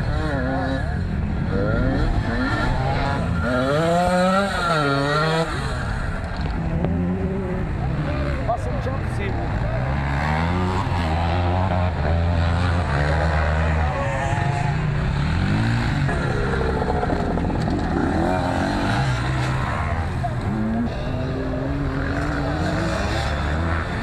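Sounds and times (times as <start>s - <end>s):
motocross motorcycle engines revving: 0.0s - 24.0s.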